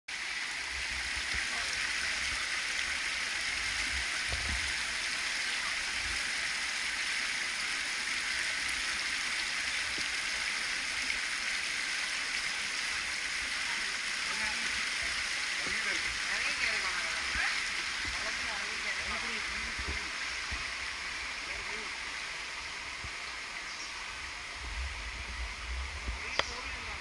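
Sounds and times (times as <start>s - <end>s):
river water rushing over boulders: 0.1s - 27.0s.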